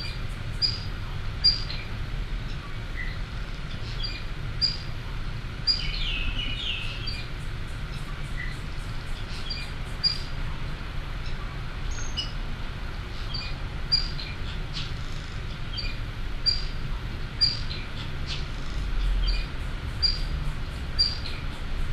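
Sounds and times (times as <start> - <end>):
bird chirping: 0.0 - 4.9, 5.6 - 10.4, 11.2 - 12.4, 13.2 - 21.8.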